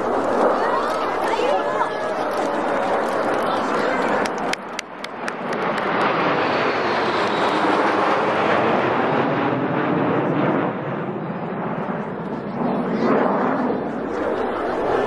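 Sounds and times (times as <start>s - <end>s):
jets flying low overhead: 0.0s - 15.0s.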